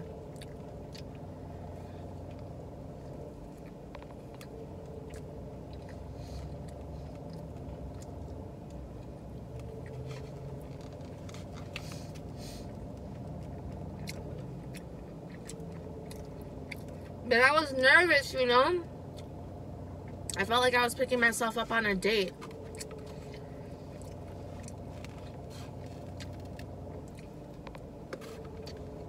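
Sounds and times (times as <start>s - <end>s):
chewing with wet smacks: 0.0s - 17.2s, 22.3s - 29.0s
low hum inside car: 0.0s - 29.0s.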